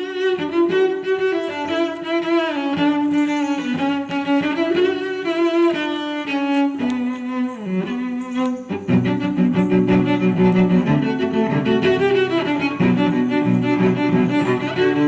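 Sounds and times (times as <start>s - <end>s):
bowed string melody: 0.0s - 15.0s.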